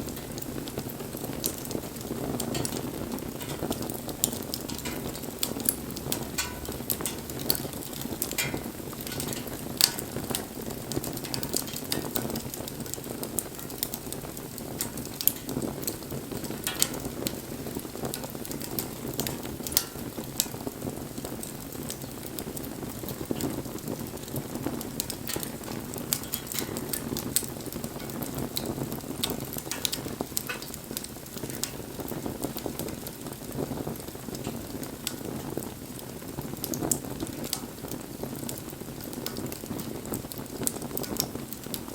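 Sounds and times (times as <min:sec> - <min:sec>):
wood crackling and popping: 0:00.0 - 0:41.9.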